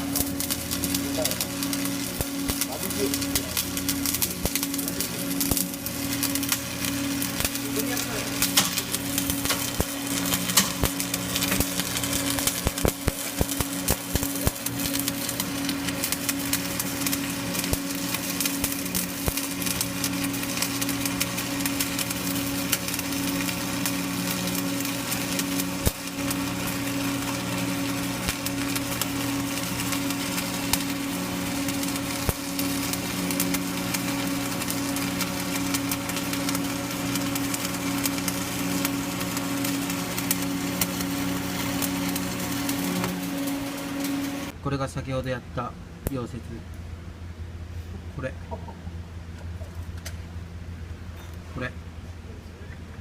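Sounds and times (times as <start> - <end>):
welding arc crackling: 0.0 - 44.6
welding machine hum: 0.0 - 44.6.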